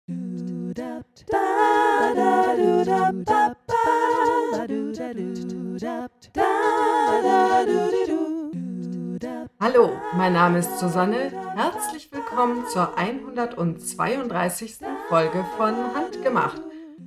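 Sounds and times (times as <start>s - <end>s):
voices singing a cappella: 0.1s - 17.0s.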